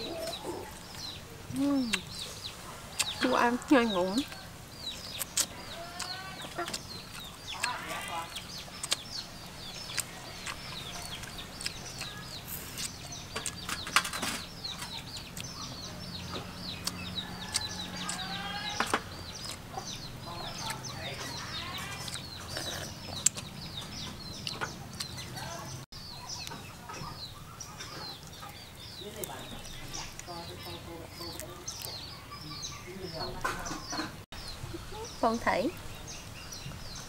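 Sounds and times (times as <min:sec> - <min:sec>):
chickens clucking: 0:00.0 - 0:36.2
high chick chirps: 0:00.0 - 0:37.0.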